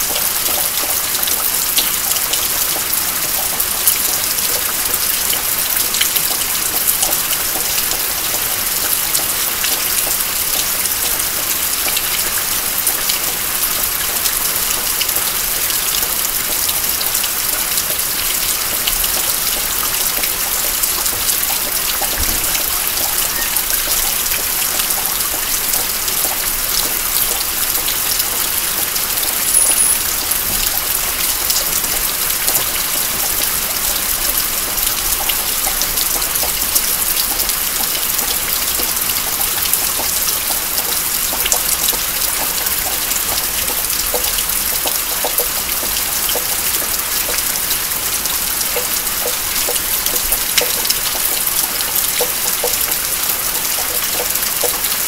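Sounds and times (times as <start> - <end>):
steady rain falling: 0.0 - 55.0
water dripping off roof: 0.0 - 55.0.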